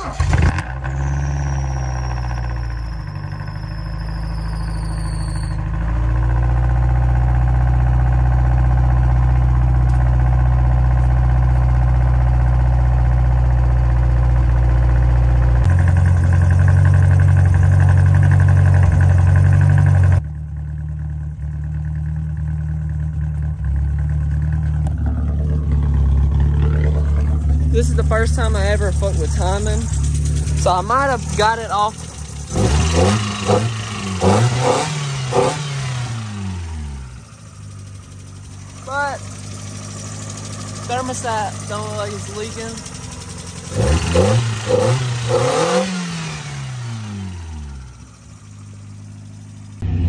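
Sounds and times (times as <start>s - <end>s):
car engine running: 0.0s - 50.0s.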